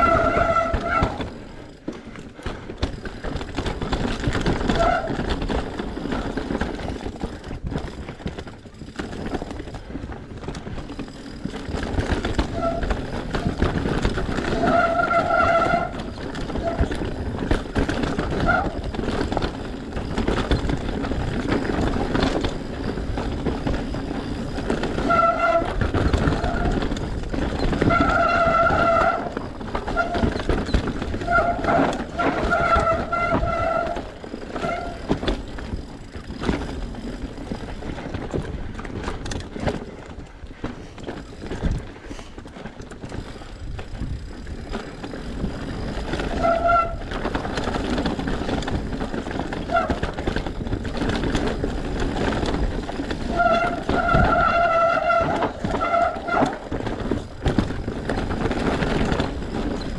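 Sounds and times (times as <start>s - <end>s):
bike rattling over bumps: 0.0s - 59.9s
bike tyres rolling over dirt: 0.0s - 59.9s.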